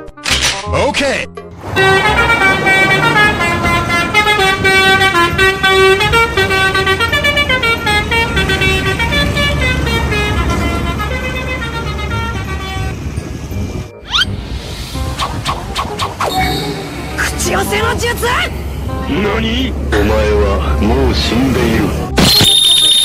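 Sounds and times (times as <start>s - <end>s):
musical bus horn melody: 1.5s - 13.9s, 16.2s - 23.0s
low engine rumble: 1.6s - 22.1s.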